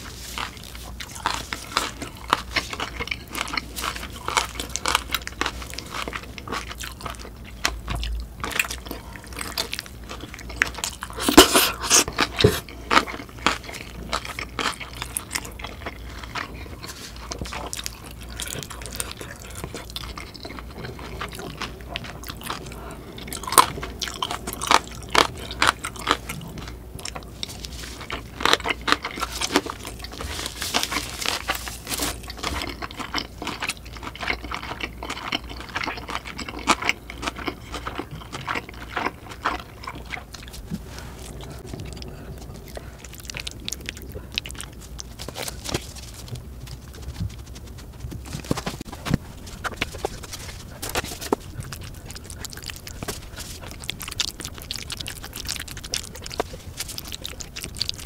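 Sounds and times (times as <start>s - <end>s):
chewing with wet mouth clicks: 0.4s - 58.0s.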